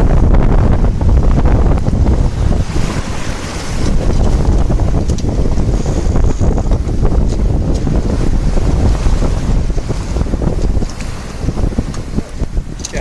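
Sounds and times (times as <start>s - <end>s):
waves and water along hull: 0.0s - 13.0s
wind buffeting microphone: 0.0s - 13.0s.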